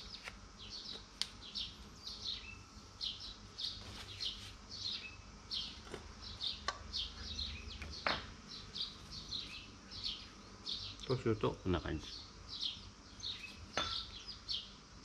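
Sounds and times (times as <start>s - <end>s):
bird chirping: 0.0s - 14.8s.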